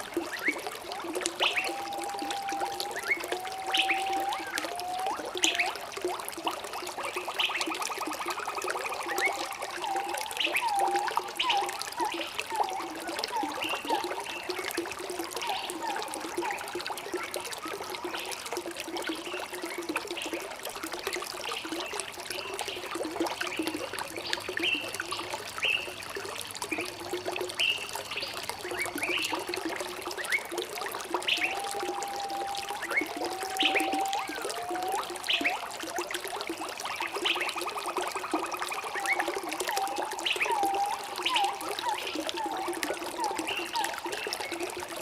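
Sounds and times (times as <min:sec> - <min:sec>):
stream trickling over stones: 0:00.0 - 0:45.0.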